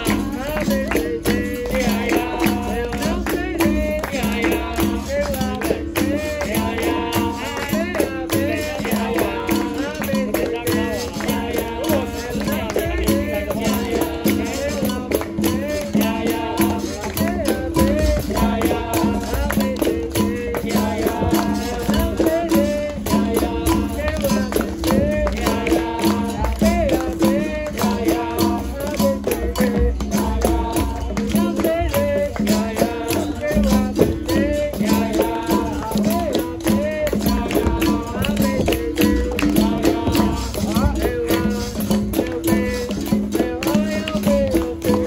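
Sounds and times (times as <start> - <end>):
berimbau: 0.0 - 45.0
group singing: 0.0 - 45.0
pandeiro rhythm: 0.0 - 45.0.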